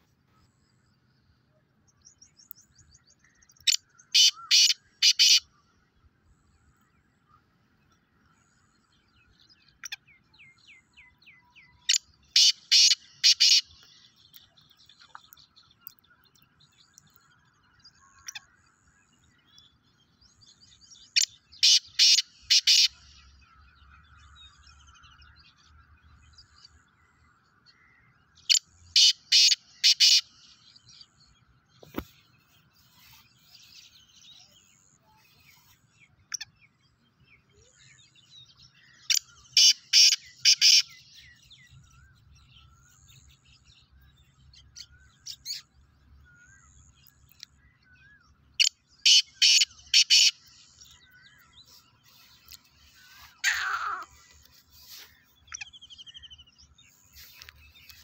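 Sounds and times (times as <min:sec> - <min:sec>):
faint bird chirps: 0:00.0 - 0:58.0.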